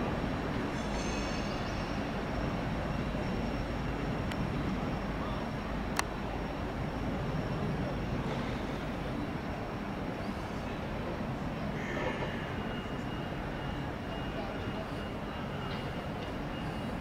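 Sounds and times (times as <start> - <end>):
distant train rumbling: 0.0 - 17.0.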